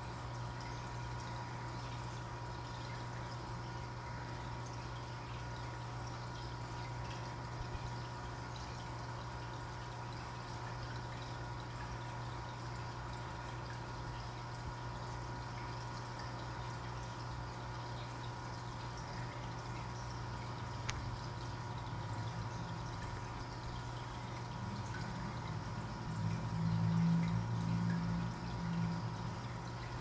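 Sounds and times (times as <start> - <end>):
aquarium filters bubbling: 0.0 - 30.0.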